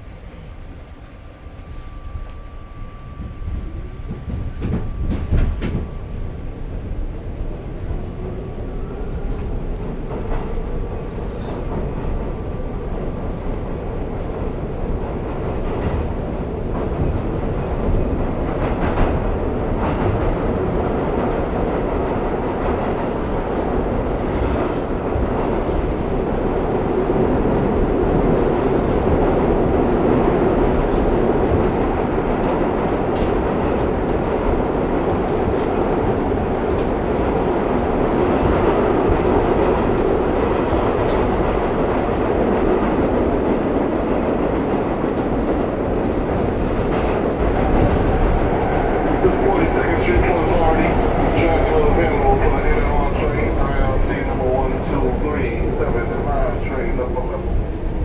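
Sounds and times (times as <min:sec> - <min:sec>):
subway train rumbling: 0:00.0 - 0:58.0
wheels clacking on rails: 0:01.6 - 0:58.0.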